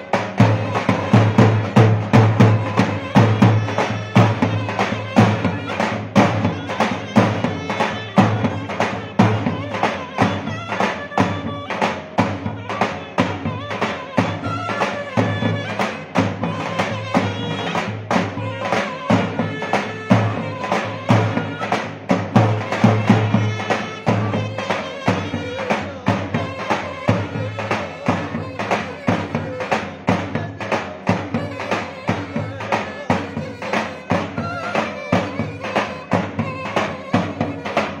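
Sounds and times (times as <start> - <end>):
loud drum beat: 0.0 - 38.0
shrill reed pipe melody: 0.0 - 38.0.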